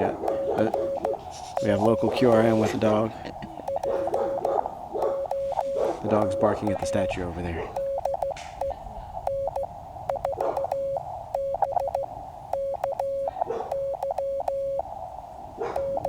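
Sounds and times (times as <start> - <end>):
morse code sidetone beeps: 0.0 - 15.0, 15.6 - 16.0
radio receiver hiss: 0.0 - 16.0.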